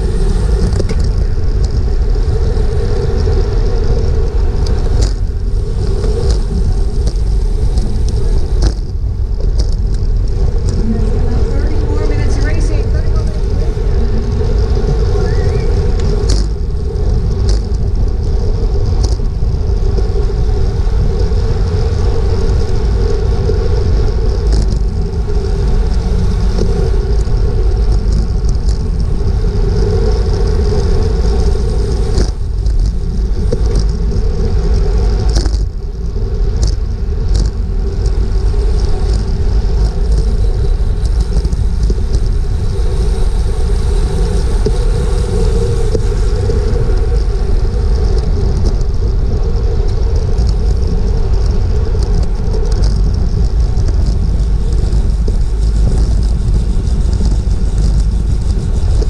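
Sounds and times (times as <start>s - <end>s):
road and tyre noise: 0.0s - 59.0s
wind buffeting microphone: 0.0s - 59.0s.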